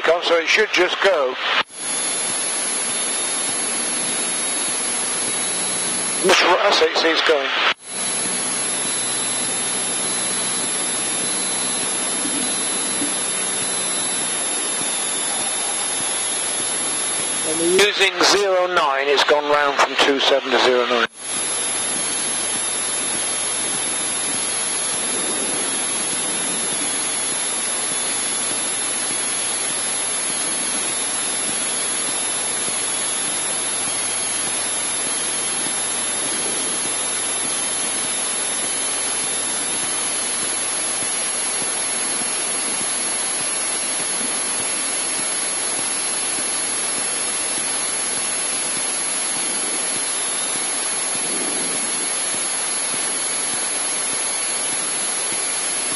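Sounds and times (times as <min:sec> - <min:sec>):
small plane engine and propeller hiss: 0:00.0 - 0:55.9.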